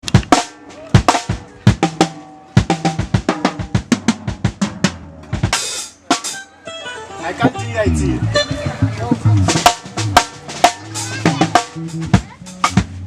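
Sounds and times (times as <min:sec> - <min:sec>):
tom fills: 0:00.3 - 0:12.1.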